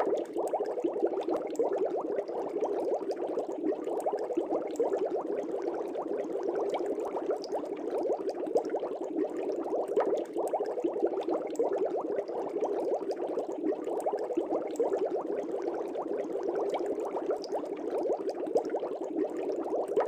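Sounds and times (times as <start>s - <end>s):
air bubbles in fish tank: 0.0s - 20.0s.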